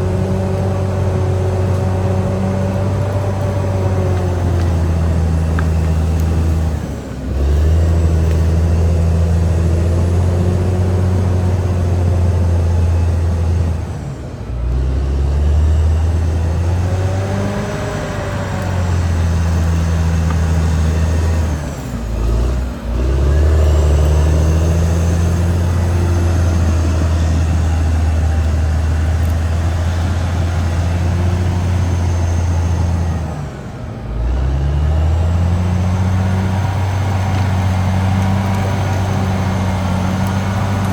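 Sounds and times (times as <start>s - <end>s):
bulldozer diesel engine drone: 0.0s - 40.9s.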